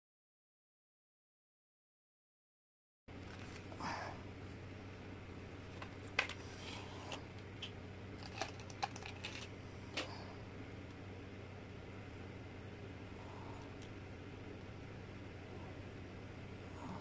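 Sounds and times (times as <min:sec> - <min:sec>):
steady low hum: 0:03.1 - 0:17.0.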